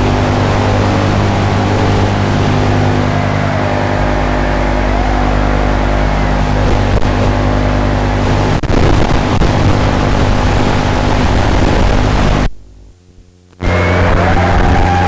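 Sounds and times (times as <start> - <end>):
drone motors buzzing: 0.0 - 12.5, 13.6 - 15.0.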